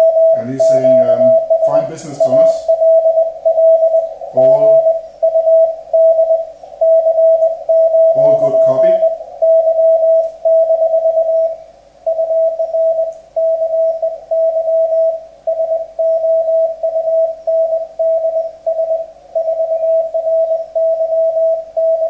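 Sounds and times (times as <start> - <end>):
morse code tone: 0.0 - 22.0.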